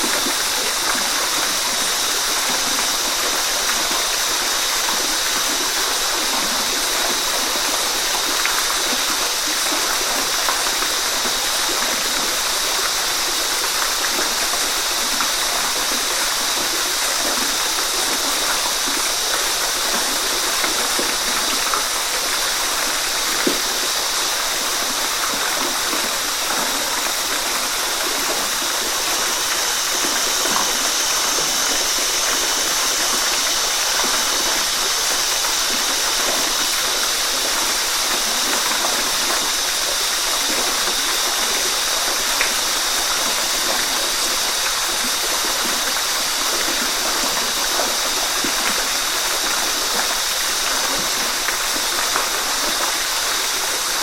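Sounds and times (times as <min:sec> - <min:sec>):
waterfall: 0:00.0 - 0:54.0.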